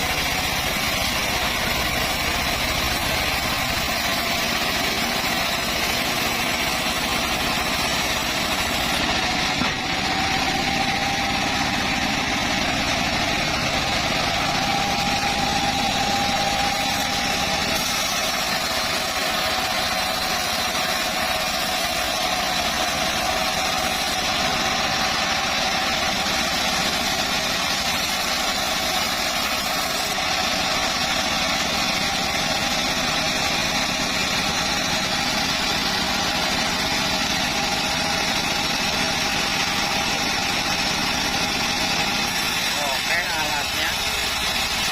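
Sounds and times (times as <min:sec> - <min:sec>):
motorised saw engine running: 0:00.0 - 0:44.9.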